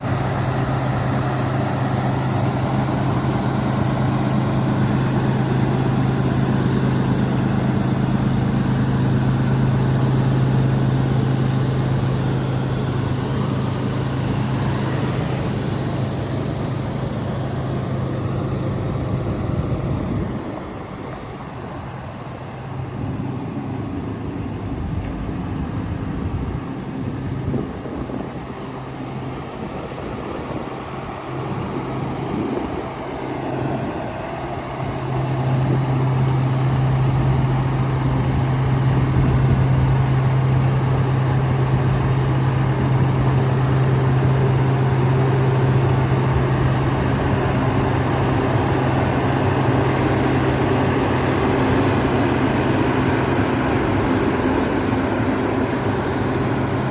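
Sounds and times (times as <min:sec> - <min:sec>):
truck diesel engine running: 0:00.0 - 0:56.9.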